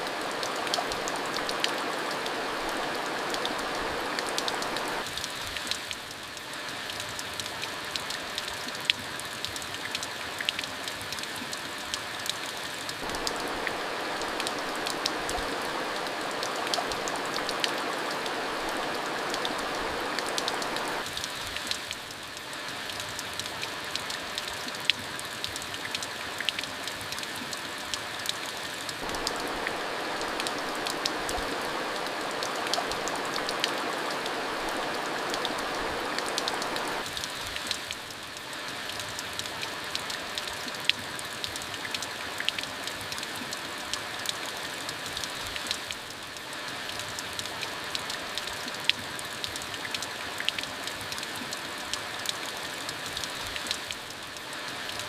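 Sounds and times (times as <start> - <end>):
rain falling: 0.0 - 55.0
raindrops ticking close by: 0.0 - 55.0.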